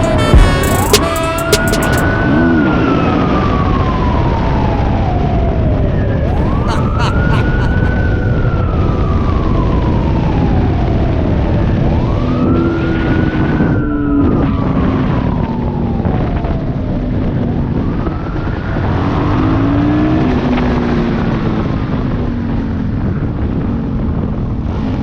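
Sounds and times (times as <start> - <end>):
siren wailing: 0.0 - 20.1.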